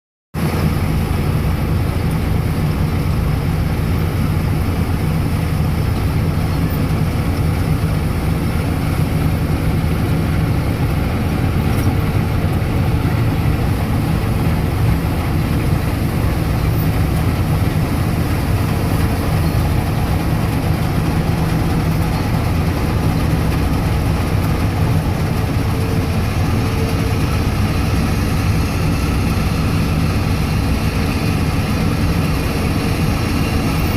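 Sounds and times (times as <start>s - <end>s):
combine harvester engine drone: 0.4s - 33.9s.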